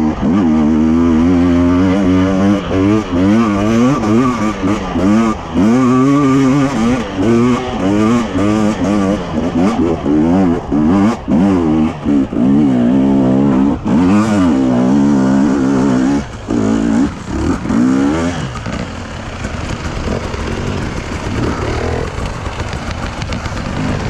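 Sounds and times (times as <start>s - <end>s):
motorcycle engine revving: 0.0s - 24.0s
rough steady noise: 0.0s - 24.0s.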